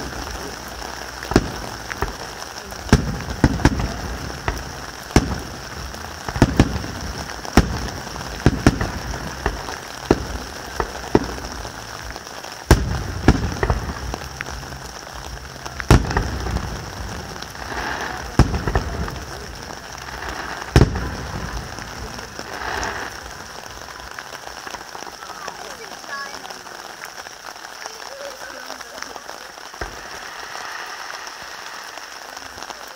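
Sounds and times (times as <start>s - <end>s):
firework shells bursting: 0.0s - 25.6s, 29.0s - 32.9s
steady hiss: 0.0s - 32.9s.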